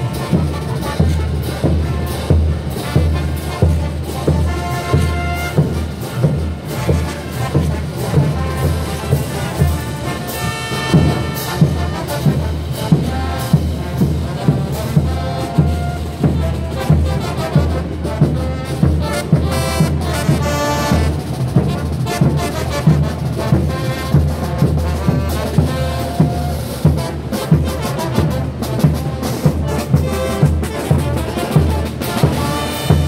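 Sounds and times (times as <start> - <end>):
brass band playing: 0.0 - 33.0.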